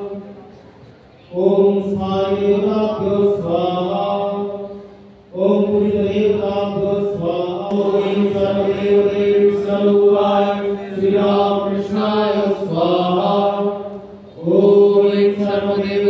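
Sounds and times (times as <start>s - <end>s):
mantras chanted on a held note: 0.0s - 16.0s.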